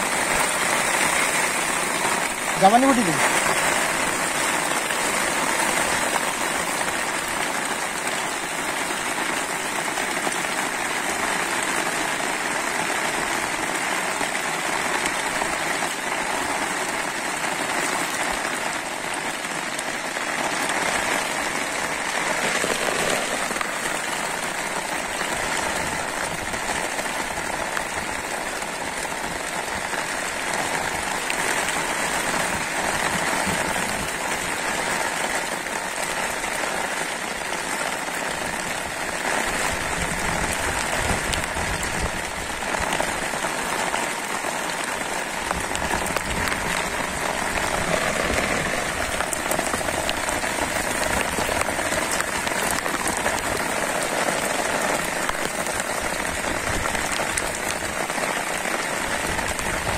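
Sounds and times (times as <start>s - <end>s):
rain falling on water: 0.0s - 59.9s.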